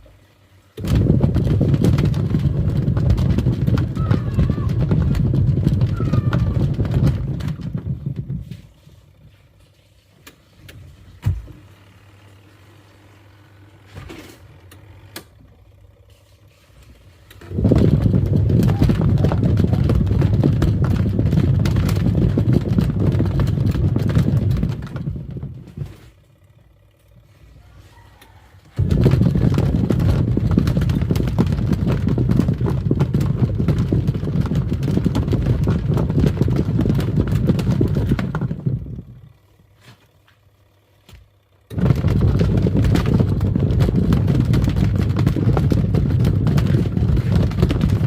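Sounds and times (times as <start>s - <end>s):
washing machine churning water: 0.0s - 26.3s, 27.2s - 48.0s
faint motor hum: 0.0s - 48.0s.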